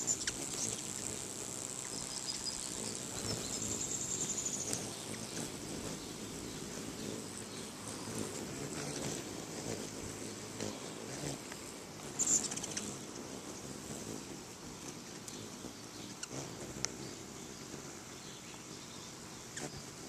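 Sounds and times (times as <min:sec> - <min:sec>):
hummingbird wings humming: 0:00.0 - 0:20.0.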